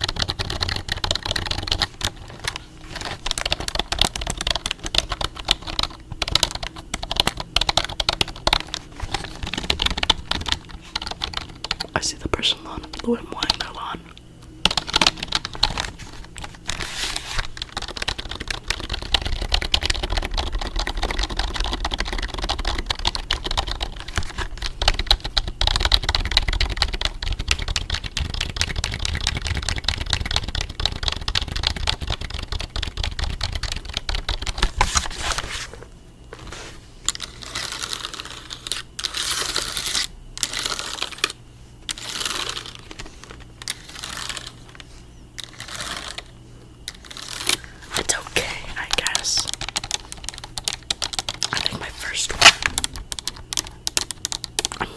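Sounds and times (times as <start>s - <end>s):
computer keyboard typing: 0.0s - 13.9s, 14.6s - 35.0s, 37.1s - 54.9s.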